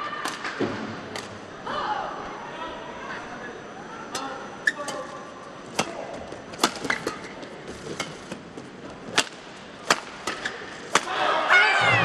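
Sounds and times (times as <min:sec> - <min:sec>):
arena background hum: 0:00.0 - 0:12.0.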